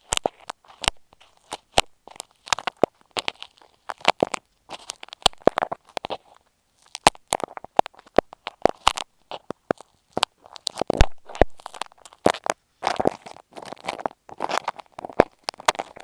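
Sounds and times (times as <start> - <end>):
ear pick scratching microphone: 0.0 - 16.0.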